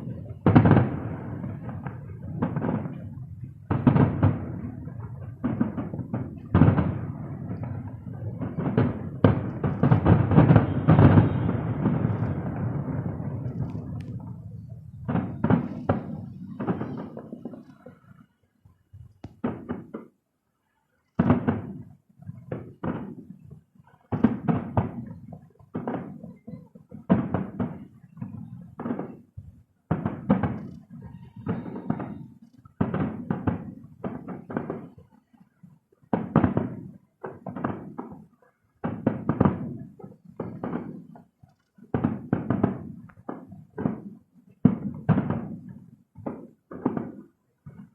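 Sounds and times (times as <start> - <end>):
distant fireworks booming: 0.0 - 20.3, 21.2 - 47.9.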